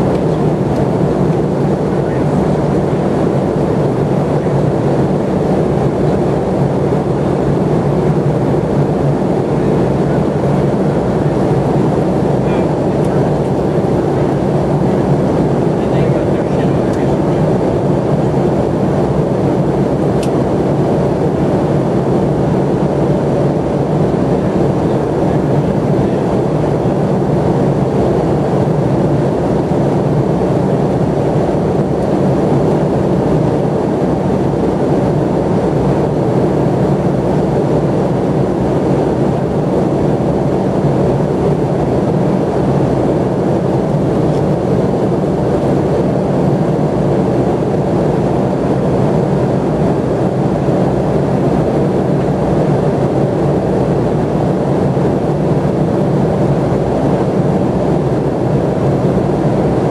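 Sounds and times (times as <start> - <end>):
airliner cabin engine rush: 0.0 - 59.9.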